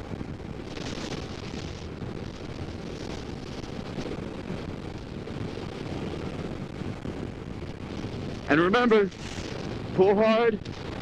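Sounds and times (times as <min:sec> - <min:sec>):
motorcycle wind and road noise: 0:00.0 - 0:11.0.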